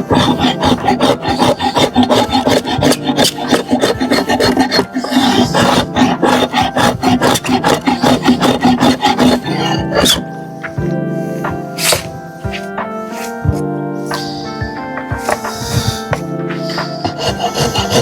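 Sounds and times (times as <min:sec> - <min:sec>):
rasp filing wood: 0:00.0 - 0:10.8, 0:11.5 - 0:18.0.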